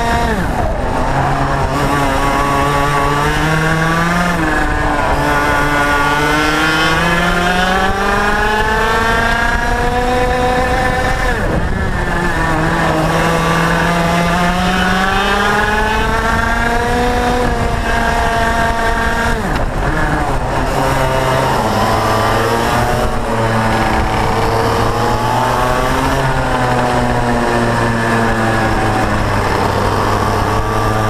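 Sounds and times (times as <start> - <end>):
kart engine revving: 0.0 - 31.0.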